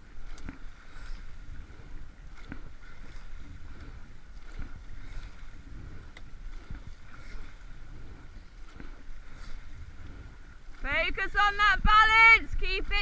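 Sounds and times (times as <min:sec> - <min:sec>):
water rushing past hull: 0:00.0 - 0:13.0
wind on microphone: 0:00.0 - 0:13.0.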